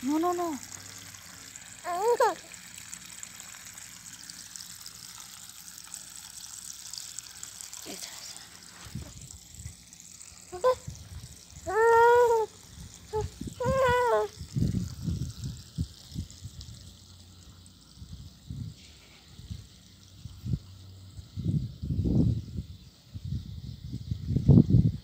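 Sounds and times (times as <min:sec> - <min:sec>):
water trickling along a ditch: 0:00.0 - 0:25.0.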